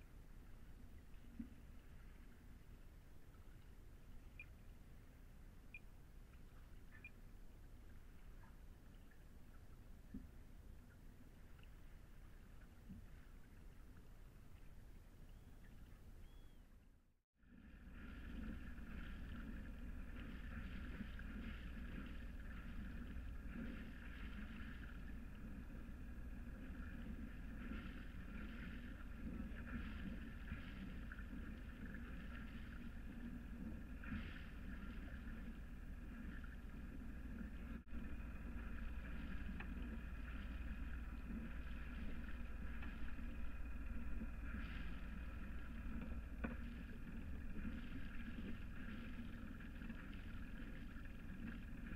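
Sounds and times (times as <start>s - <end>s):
water rushing along a boat hull: 0.0s - 16.8s, 17.4s - 51.9s.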